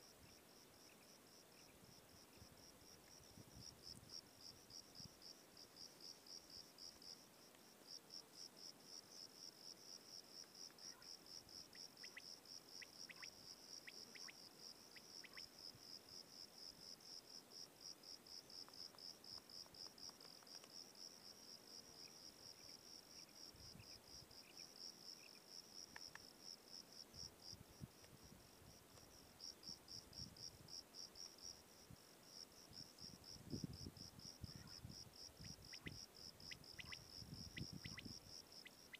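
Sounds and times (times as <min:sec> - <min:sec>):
faint cricket chirping: 0:00.0 - 0:38.9.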